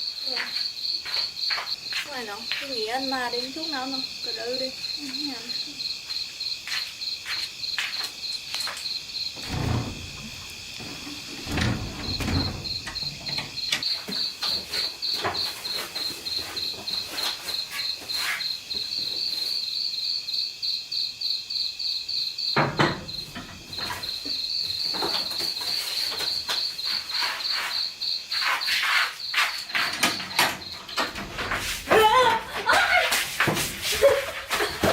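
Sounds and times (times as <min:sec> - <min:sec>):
insect chirping: 0:00.0 - 0:34.9.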